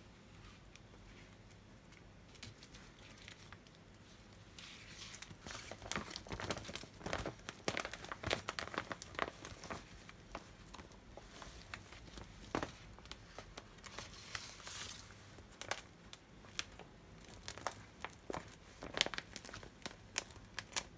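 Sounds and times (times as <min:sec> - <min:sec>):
plastic film crinkling: 0:02.2 - 0:20.9.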